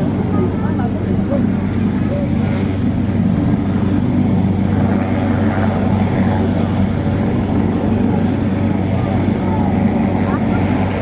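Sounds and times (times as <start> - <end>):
small airplane engine droning: 0.0 - 11.0.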